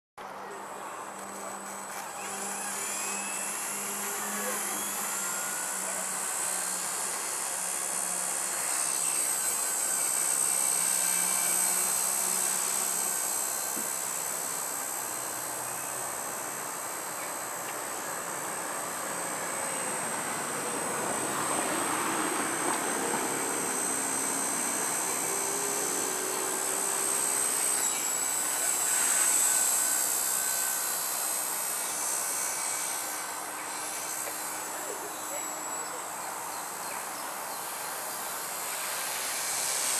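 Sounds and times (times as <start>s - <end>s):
toy helicopter rotors whining: 0.6s - 39.9s.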